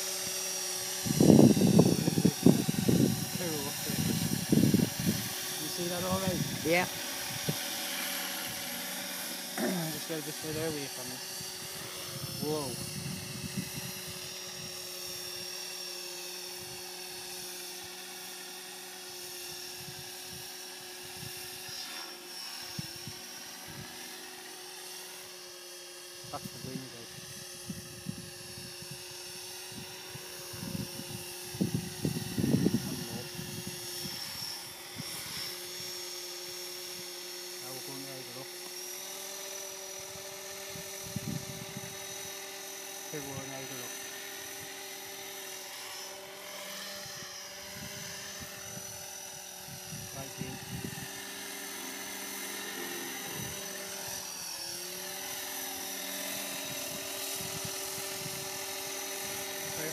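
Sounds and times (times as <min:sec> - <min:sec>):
rc helicopter whine: 0:00.0 - 0:59.9
rotor hum: 0:00.0 - 0:59.9.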